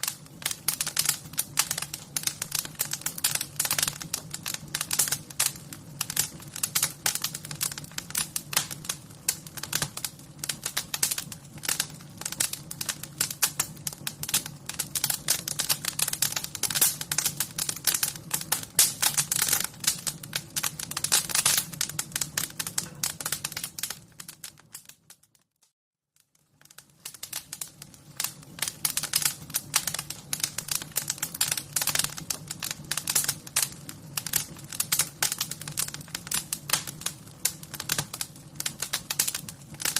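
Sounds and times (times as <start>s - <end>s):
fire crackling and popping: 0.0s - 25.6s, 26.2s - 39.9s.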